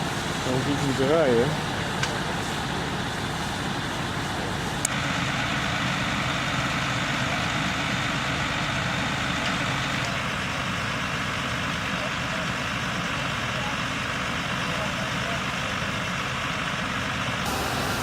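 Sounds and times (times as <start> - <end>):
large vehicle engine idling: 0.0 - 18.0.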